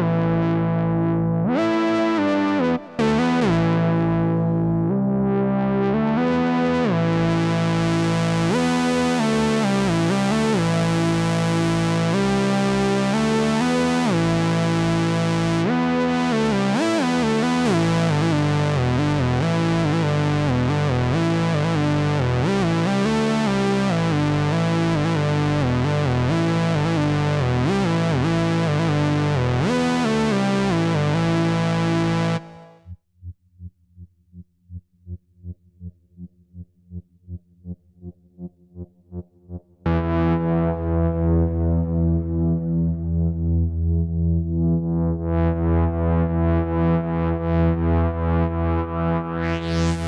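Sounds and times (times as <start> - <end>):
buzzy synthesizer melody: 0.0 - 32.8, 38.8 - 50.0.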